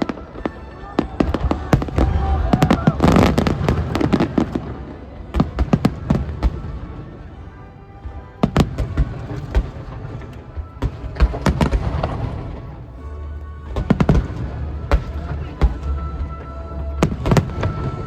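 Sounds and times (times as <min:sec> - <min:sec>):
fireworks bangs and crackles: 0:00.0 - 0:12.8, 0:13.7 - 0:18.0
music playing: 0:00.0 - 0:18.0.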